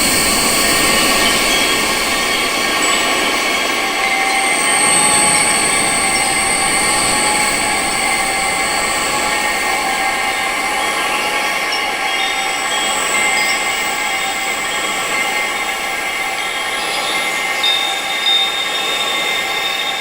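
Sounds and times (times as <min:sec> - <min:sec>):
steady wind-like hiss: 0:00.0 - 0:20.0
sustained high-pitched tones: 0:00.0 - 0:20.0.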